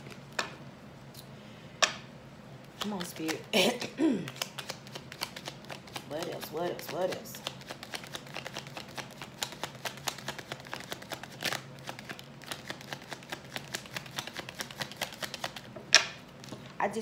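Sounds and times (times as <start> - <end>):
cards being shuffled: 2.6 - 16.7.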